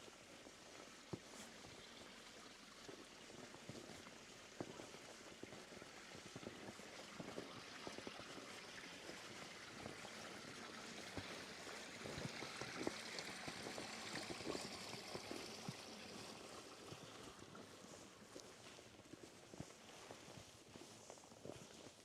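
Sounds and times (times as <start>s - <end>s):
footsteps in snow: 0.0s - 22.0s
stream running water: 0.0s - 22.0s.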